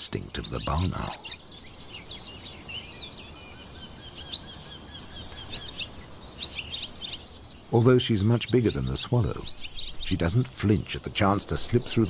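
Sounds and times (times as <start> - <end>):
swallows chirping and twittering: 0.0 - 12.0.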